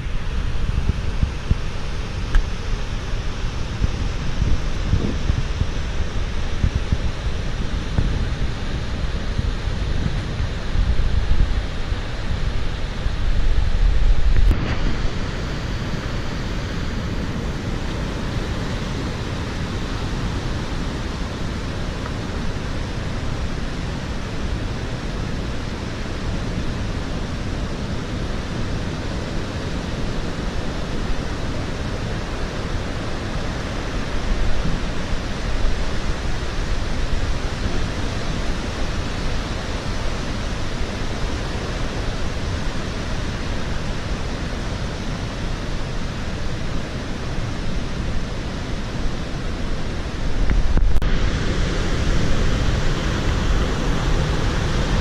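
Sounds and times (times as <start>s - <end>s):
surf breaking on shore: 0.0s - 55.0s
wind buffeting microphone: 0.0s - 55.0s.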